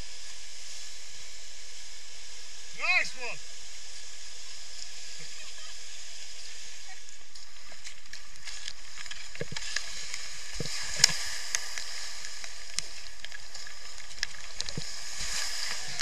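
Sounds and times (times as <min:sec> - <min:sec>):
whitewater rushing over weir: 0:00.0 - 0:16.0.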